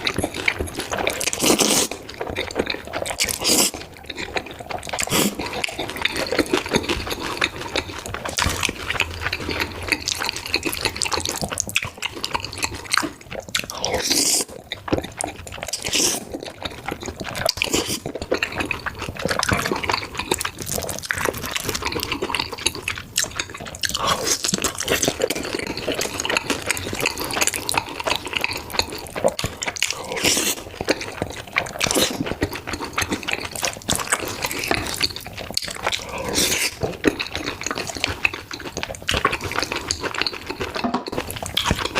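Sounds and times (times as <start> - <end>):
noodles being slurped and chewed: 0.0 - 41.9.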